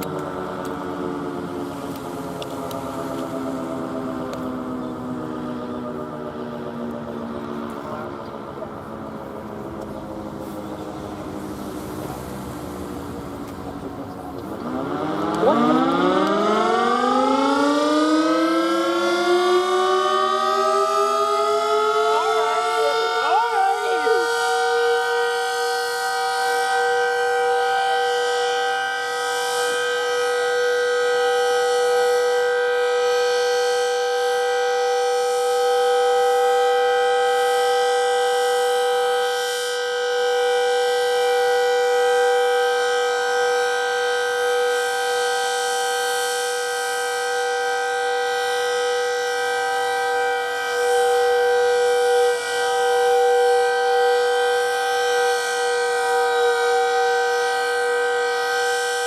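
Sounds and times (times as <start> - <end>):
warning siren steady chord: 0.0 - 59.0.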